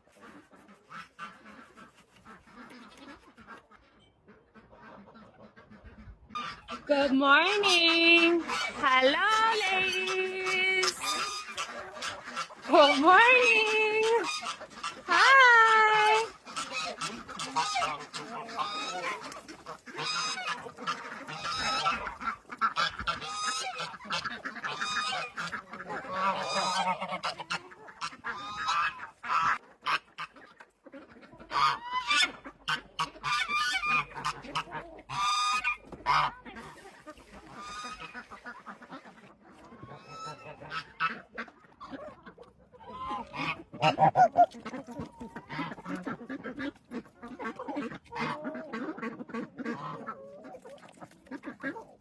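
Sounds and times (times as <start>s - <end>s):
poultry flock calling: 0.0s - 52.0s.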